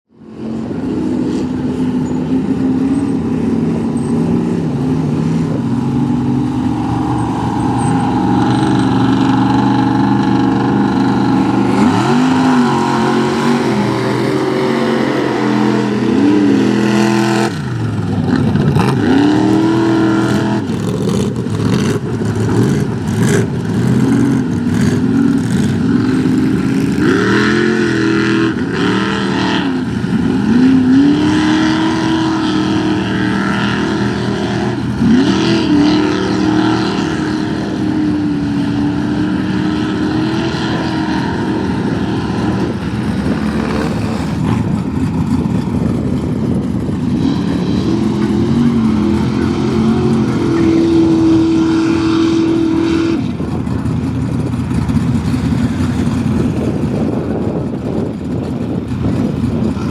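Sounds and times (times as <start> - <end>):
truck engines revving: 0.1 - 59.9.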